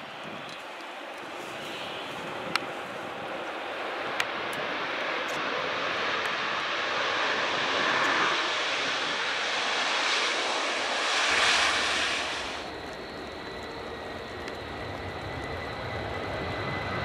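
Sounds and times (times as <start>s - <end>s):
jet airliner taking off: 0.0s - 17.0s.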